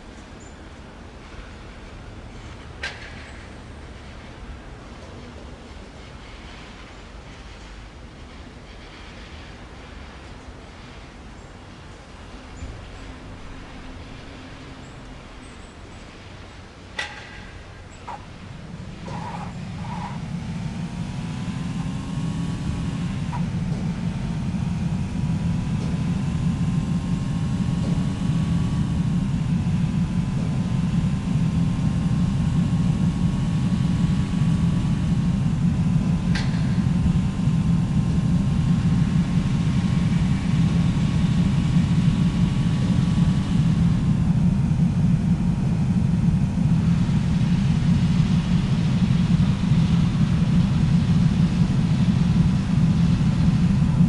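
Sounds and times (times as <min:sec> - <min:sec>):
faint whine: 0:00.0 - 0:54.0
moving vehicle rumble: 0:00.8 - 0:54.0.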